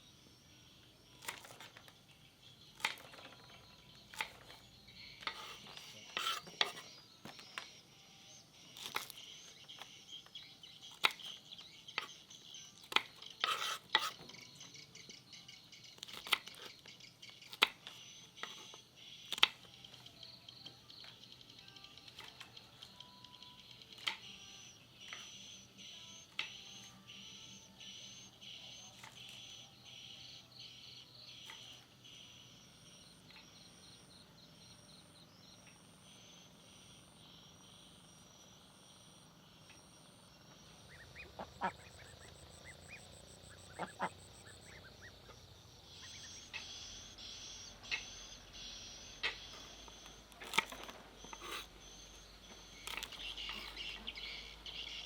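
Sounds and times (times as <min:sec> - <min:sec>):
insect chirps: 0:00.0 - 0:55.0
faint high bird calls: 0:00.8 - 0:38.4, 0:39.3 - 0:55.0.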